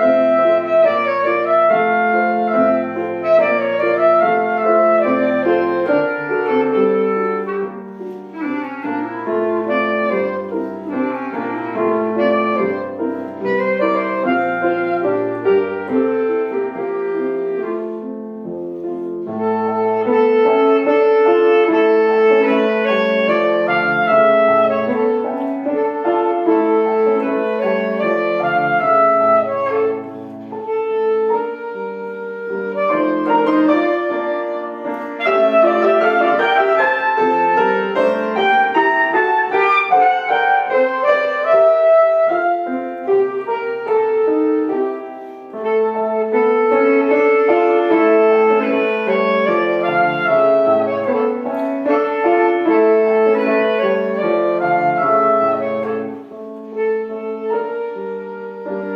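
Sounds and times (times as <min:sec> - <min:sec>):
piano accompaniment: 0:00.0 - 0:58.9
wind instrument slow melody: 0:00.0 - 0:58.9.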